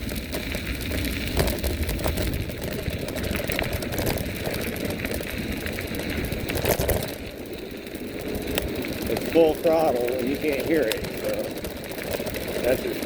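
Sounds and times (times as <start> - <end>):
bike clicks and rattles: 0.0 - 13.0
tyre rumble: 0.0 - 13.0.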